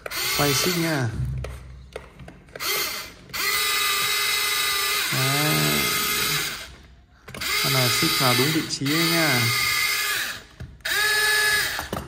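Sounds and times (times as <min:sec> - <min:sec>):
small electric motor whirring: 0:00.1 - 0:01.0, 0:02.6 - 0:12.0.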